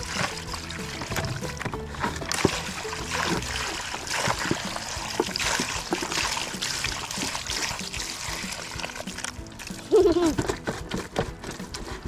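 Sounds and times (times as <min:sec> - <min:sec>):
faint background music: 0:00.0 - 0:12.0
water trickling and splashing: 0:00.0 - 0:12.0.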